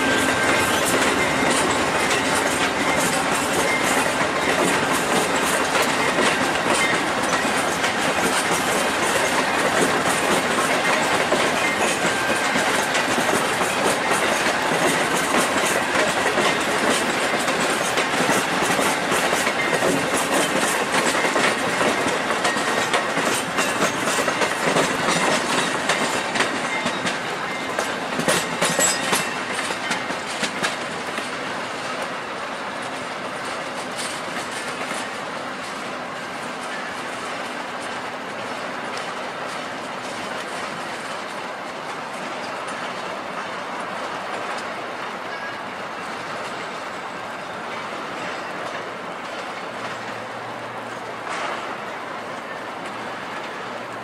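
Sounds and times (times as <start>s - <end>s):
train wheels clattering over rail joints: 0.0s - 54.0s.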